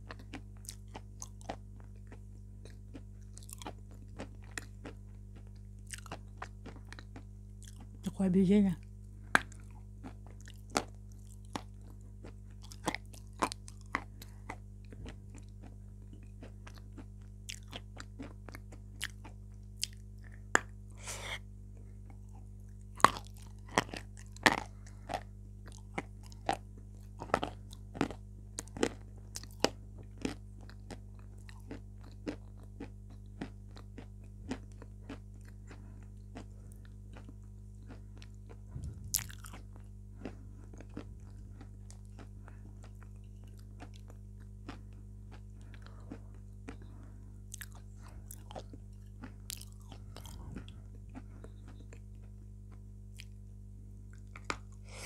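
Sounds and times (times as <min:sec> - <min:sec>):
crunching and chewing chalk: 0:00.0 - 0:08.1, 0:08.8 - 0:55.0
steady low hum: 0:00.0 - 0:55.0.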